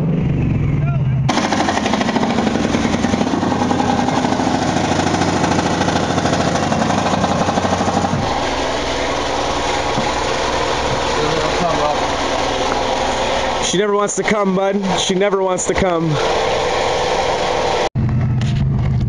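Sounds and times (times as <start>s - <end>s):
supercharged engine pulsing: 0.0s - 19.0s.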